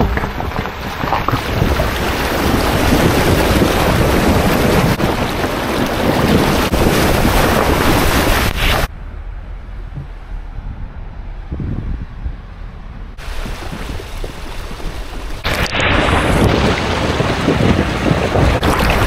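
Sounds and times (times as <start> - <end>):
water churning around tyre: 0.0 - 10.5, 13.2 - 19.0.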